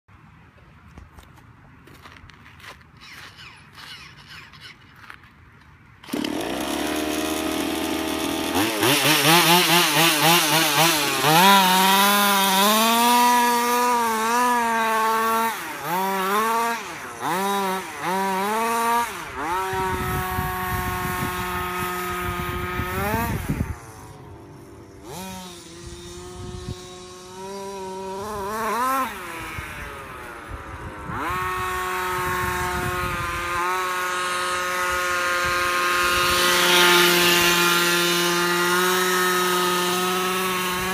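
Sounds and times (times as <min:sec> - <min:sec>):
model car engine revving: 0:06.0 - 0:40.9.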